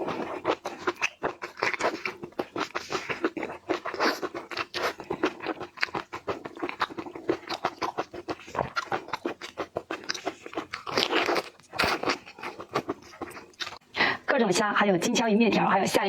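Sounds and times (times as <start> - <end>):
crunching and chewing: 0.0 - 13.8.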